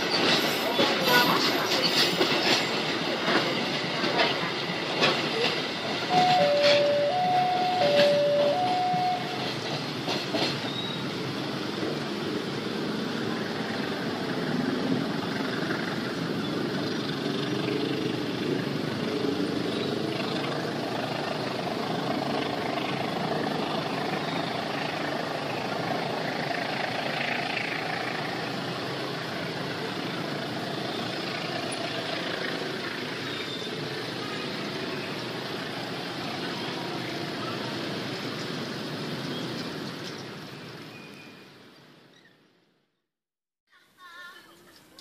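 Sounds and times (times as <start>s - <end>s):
passenger train rumbling on track: 0.0s - 42.5s.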